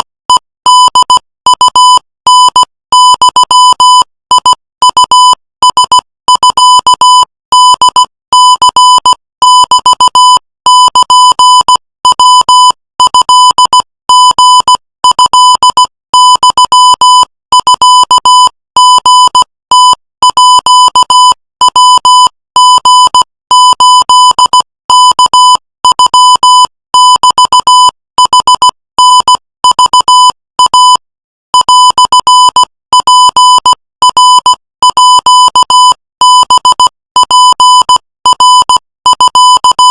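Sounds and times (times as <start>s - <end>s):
buzzy morse code beeps: 0.0s - 39.9s.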